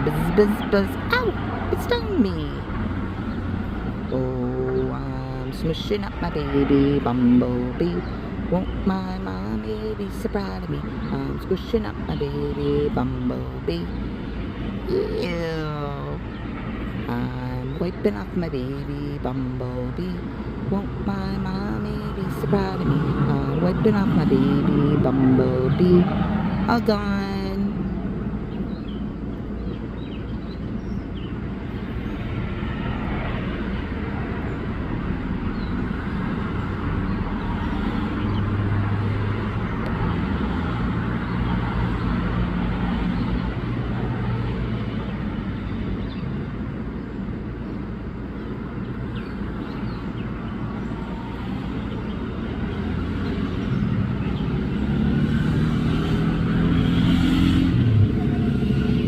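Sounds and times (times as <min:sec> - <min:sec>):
road traffic: 0:00.0 - 0:59.0
vehicle approaching: 0:00.0 - 0:59.0.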